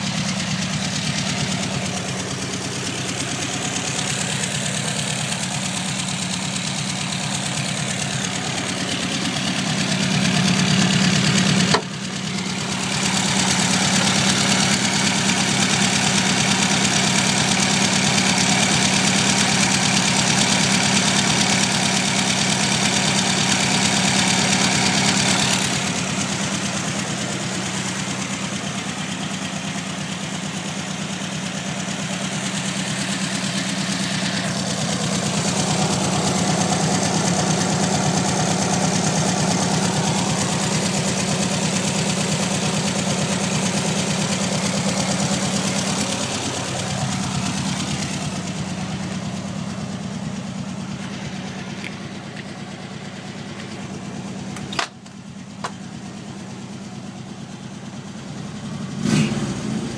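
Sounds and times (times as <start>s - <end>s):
air-cooled engine idling: 0.0s - 59.9s.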